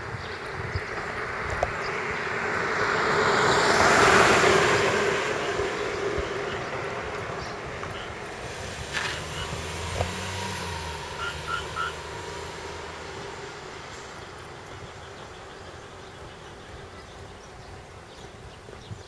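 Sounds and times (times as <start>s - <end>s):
vehicle passing by: 0.0s - 18.7s.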